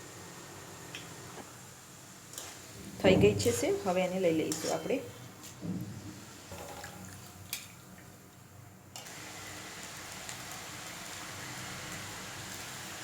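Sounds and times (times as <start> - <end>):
hot oil sizzling: 0.0 - 8.3, 9.0 - 13.0.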